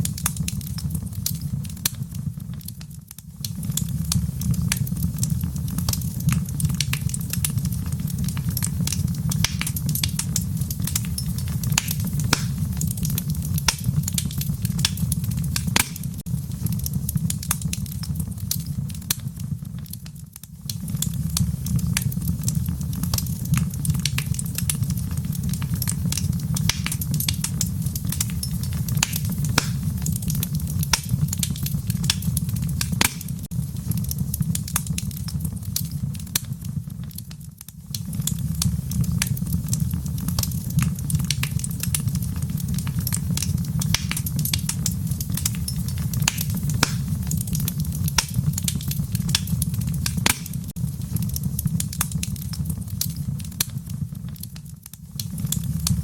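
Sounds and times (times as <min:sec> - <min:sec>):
fire crackling and popping: 0:00.0 - 0:56.0
low rumble of fire: 0:00.0 - 0:56.0.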